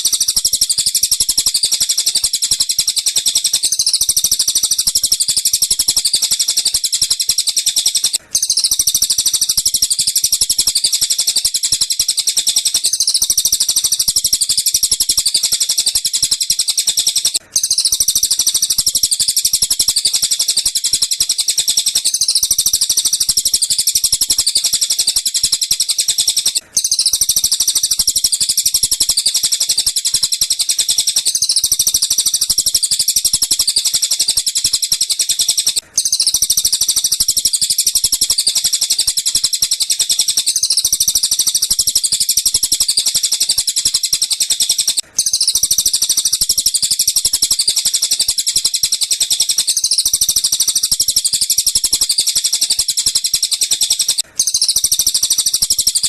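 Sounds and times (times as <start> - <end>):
high-pitched bird chatter: 0.0 - 56.0.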